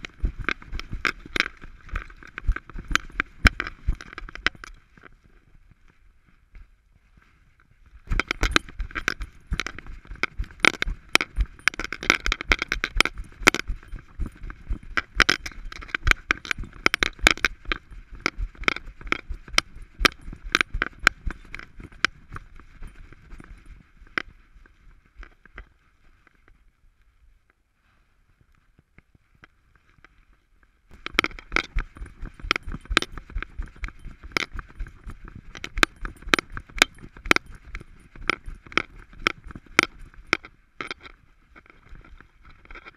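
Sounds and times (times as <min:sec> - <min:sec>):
camera and strap rattling: 0:00.0 - 0:05.9, 0:08.0 - 0:26.6, 0:30.9 - 0:42.9.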